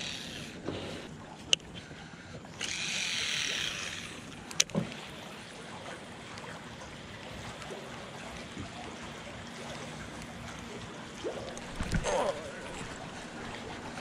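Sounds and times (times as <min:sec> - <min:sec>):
water trickling around boat: 0:00.0 - 0:14.0.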